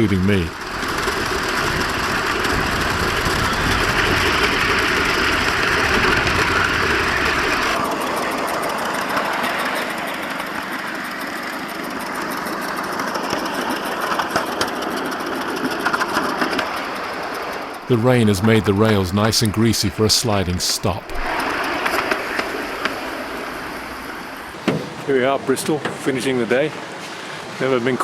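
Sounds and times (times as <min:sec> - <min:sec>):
steam locomotive exhaust beats: 0:00.0 - 0:25.1
wheels on rails: 0:00.5 - 0:19.0, 0:21.2 - 0:27.5.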